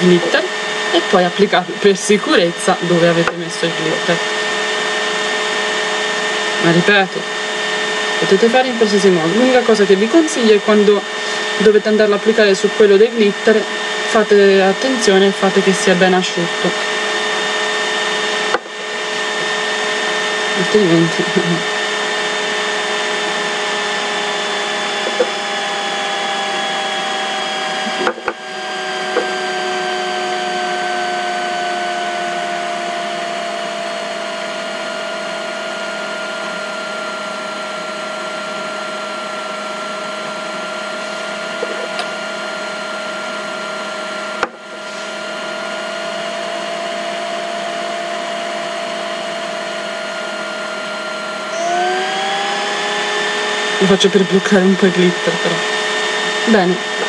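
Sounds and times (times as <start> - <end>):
small electric motor whining: 0.0 - 57.0.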